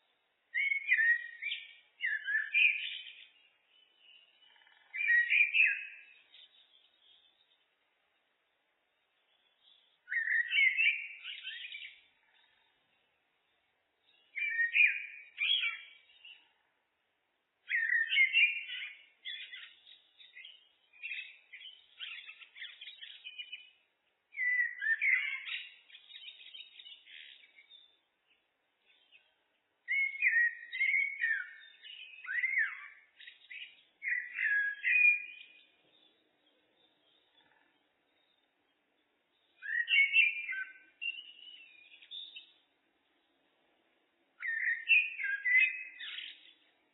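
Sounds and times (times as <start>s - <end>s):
blackbird singing: 0.0s - 7.7s, 9.1s - 16.6s, 17.6s - 46.9s.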